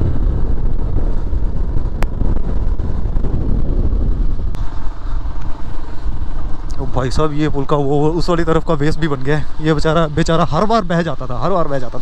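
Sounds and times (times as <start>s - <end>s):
motorcycle engine running: 0.0s - 12.0s
wind rumbling on microphone: 0.0s - 12.0s.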